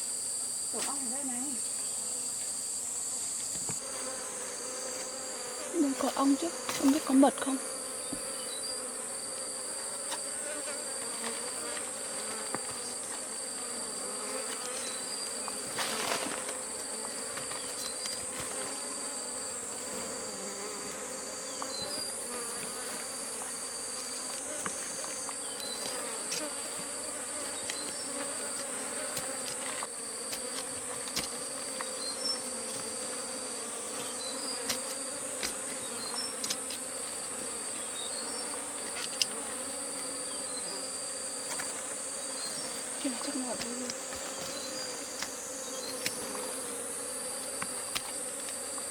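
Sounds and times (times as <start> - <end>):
honeybees buzzing: 0.0 - 48.9.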